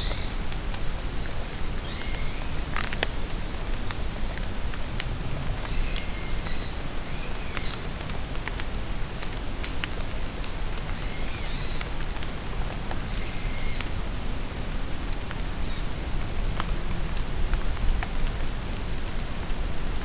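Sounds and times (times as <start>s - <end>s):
steady rain in forest: 0.0s - 20.0s.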